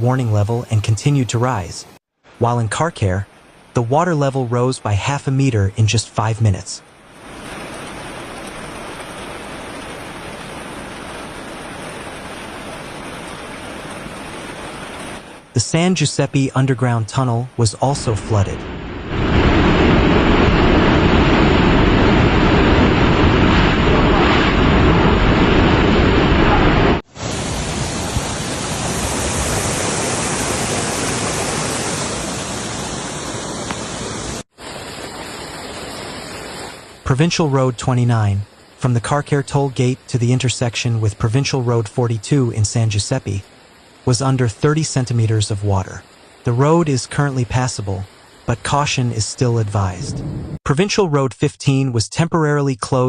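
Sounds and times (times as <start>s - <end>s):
water rushing: 0.0s - 50.2s.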